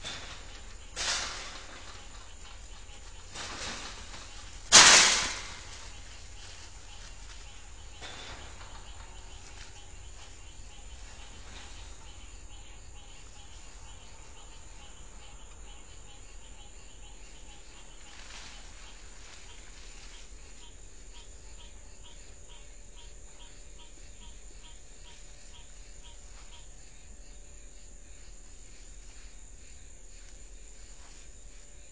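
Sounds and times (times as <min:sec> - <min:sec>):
faint insects: 0:00.0 - 0:31.9.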